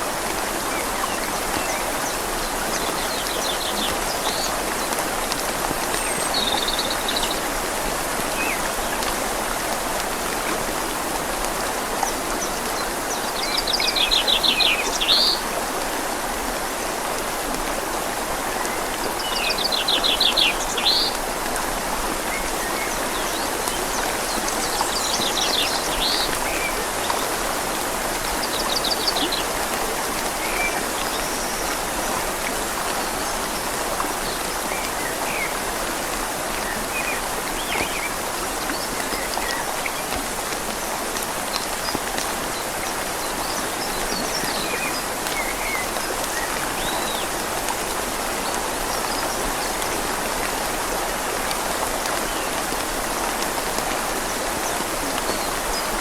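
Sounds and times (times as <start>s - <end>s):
rain falling on leaves: 0.0s - 56.0s
river flowing: 0.0s - 56.0s.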